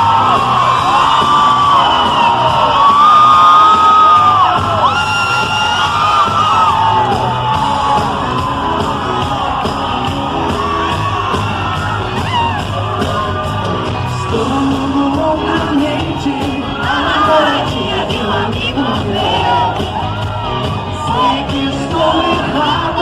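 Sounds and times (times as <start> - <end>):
crowd screaming and whooping: 0.0 - 23.0
live band playing: 0.0 - 23.0.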